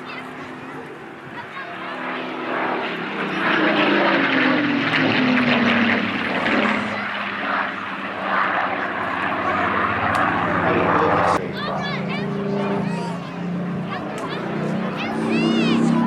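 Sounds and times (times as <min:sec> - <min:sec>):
piston aircraft engine droning: 0:00.0 - 0:16.0.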